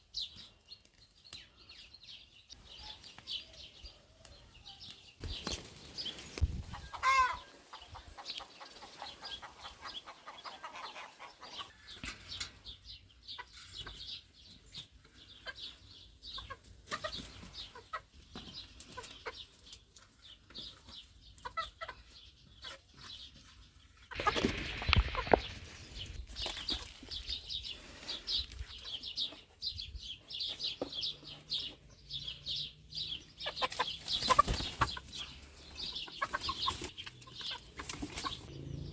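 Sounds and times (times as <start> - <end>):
chickens clucking: 0.2 - 38.9.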